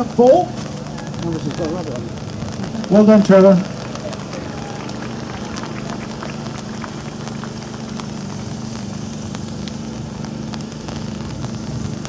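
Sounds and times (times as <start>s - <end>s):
rain pattering: 0.0s - 12.0s
steady low hum: 0.0s - 12.0s.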